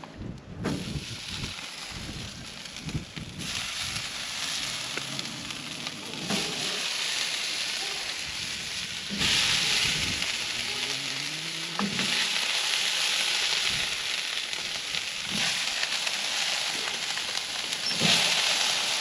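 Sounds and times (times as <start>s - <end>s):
food sizzling in hot fat: 0.6s - 19.0s.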